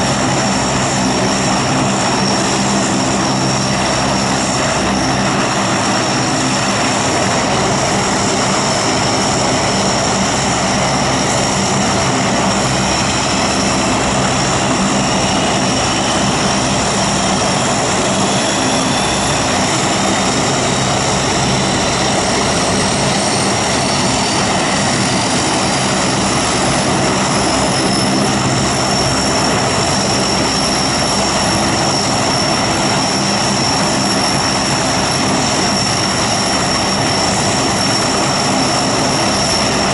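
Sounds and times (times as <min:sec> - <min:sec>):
propeller roar and turbine whine: 0:00.0 - 0:39.9.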